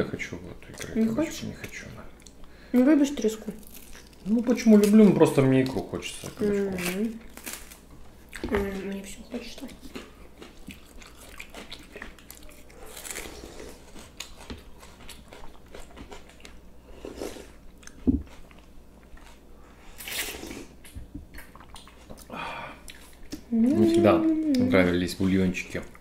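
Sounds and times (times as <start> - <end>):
people chewing: 3.6 - 24.9.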